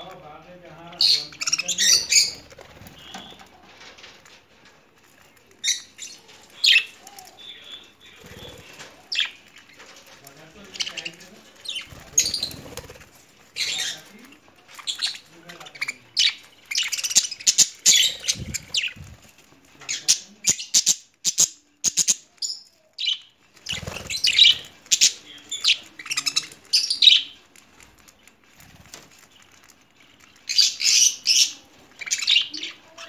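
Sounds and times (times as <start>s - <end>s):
budgerigars chirping: 0.8s - 3.5s, 5.5s - 12.9s, 13.5s - 19.2s, 19.8s - 27.4s, 29.2s - 33.0s
wings fluttering: 1.4s - 7.4s, 8.0s - 20.1s, 23.4s - 32.2s.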